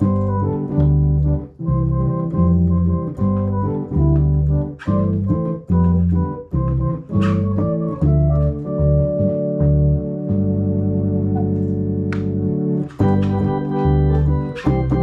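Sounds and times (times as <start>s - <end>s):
electronic organ chords and bass: 0.0s - 15.0s.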